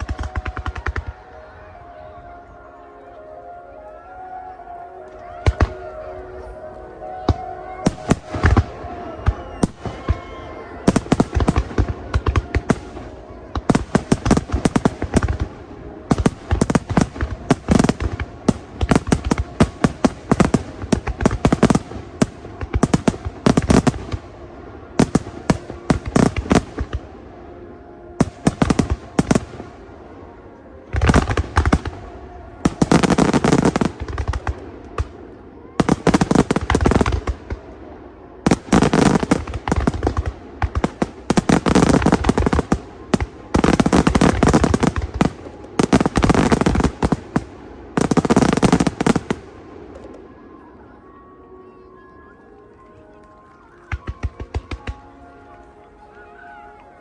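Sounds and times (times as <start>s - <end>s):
fireworks bangs and crackles: 0.0s - 2.7s, 5.0s - 51.0s, 51.9s - 55.8s.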